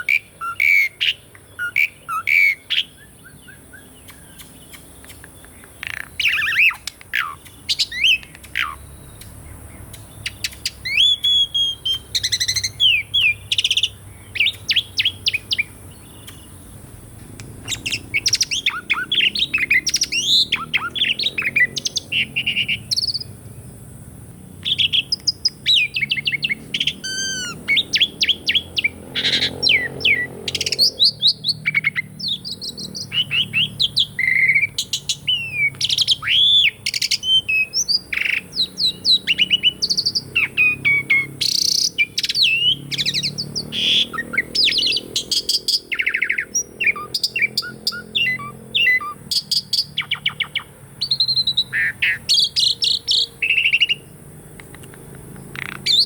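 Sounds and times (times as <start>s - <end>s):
starling singing: 0.0s - 23.4s, 24.6s - 56.0s.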